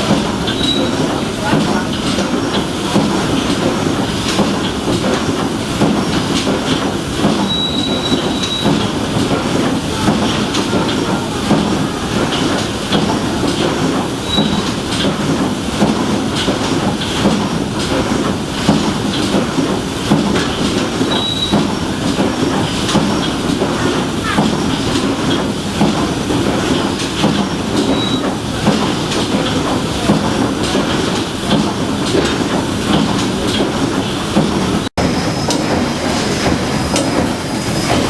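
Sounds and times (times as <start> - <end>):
steam engine running: 0.0 - 38.0.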